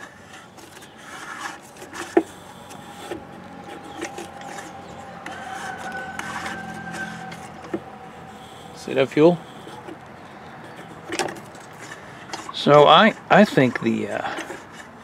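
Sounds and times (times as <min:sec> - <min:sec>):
engine turned over by hand: 0:00.0 - 0:15.0
light clicks and rubs: 0:00.0 - 0:15.0.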